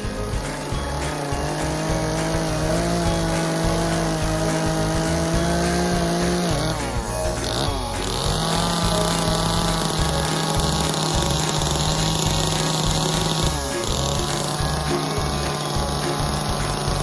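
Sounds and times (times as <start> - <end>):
chainsaw engine revving high: 0.0 - 17.0.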